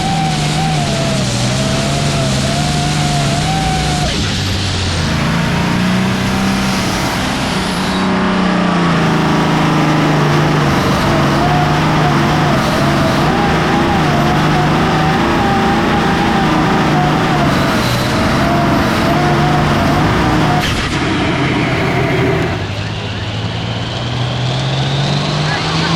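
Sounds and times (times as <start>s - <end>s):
diesel engine under full load: 0.0s - 25.9s.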